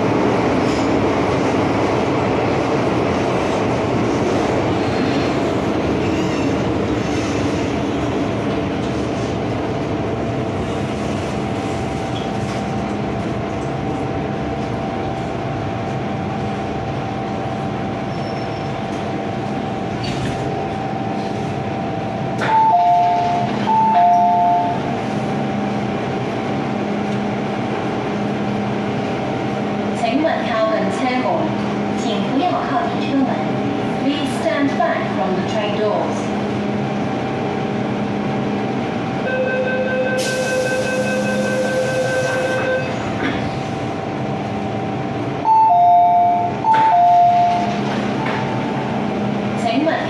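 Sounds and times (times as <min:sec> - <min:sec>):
train rolling noise: 0:00.0 - 0:50.0.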